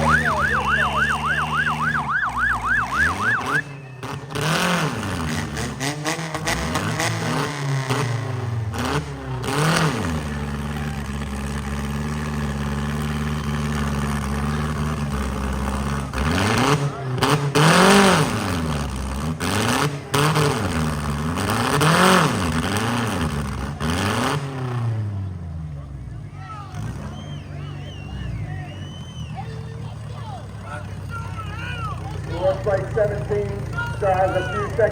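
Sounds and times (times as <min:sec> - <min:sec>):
car engines revving hard: 0:00.0 - 0:34.9.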